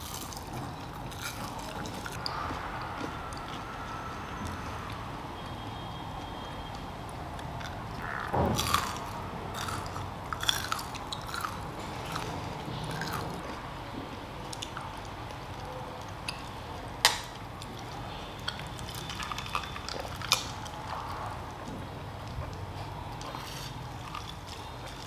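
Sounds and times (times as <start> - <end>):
chewing crispy food: 0.0 - 25.0.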